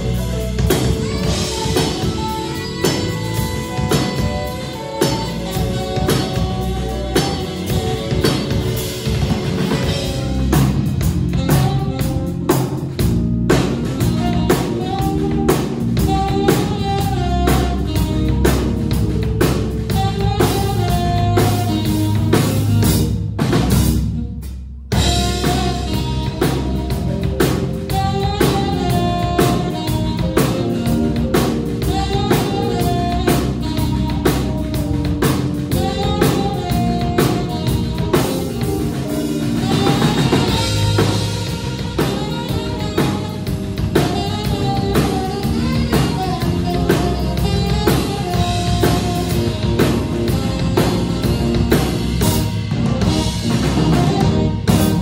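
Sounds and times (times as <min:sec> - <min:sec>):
drum kit: 0:00.0 - 0:55.0
electric bass: 0:00.0 - 0:55.0
electric keyboard: 0:00.0 - 0:55.0
saxophone melody: 0:00.0 - 0:55.0.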